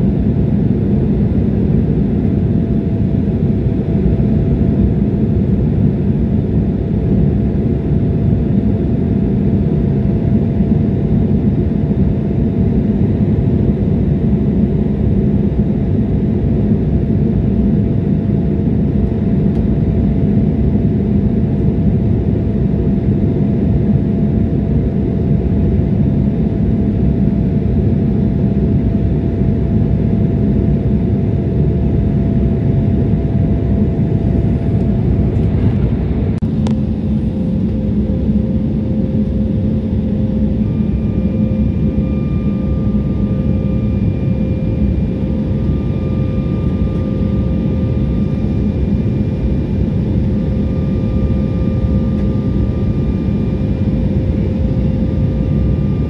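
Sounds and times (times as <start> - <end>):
faint engine whine: 0.0 - 56.0
jet cabin engine roar: 0.0 - 56.0.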